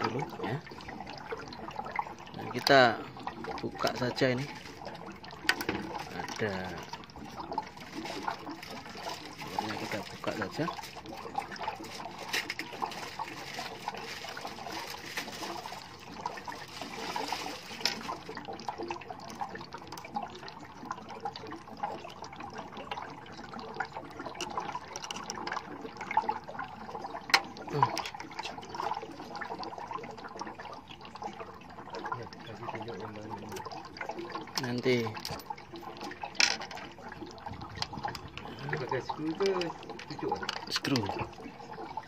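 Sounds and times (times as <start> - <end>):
water trickling from drain: 0.0 - 42.0.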